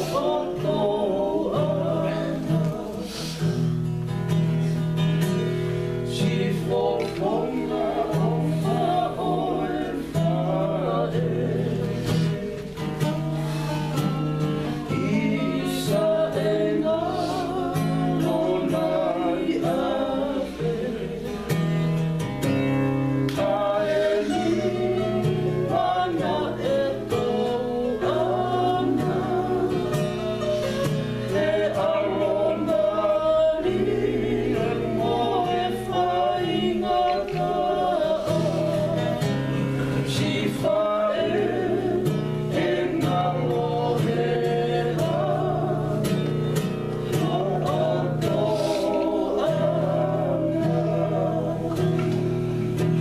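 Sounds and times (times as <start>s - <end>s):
acoustic guitar: 0.0s - 53.0s
group singing in harmony: 0.0s - 53.0s.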